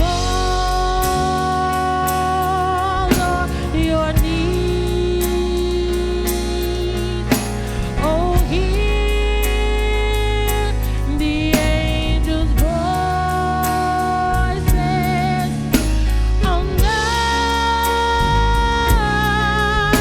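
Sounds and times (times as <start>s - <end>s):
gospel band with bass and drums: 0.0s - 20.0s
person singing with vibrato: 0.0s - 20.0s.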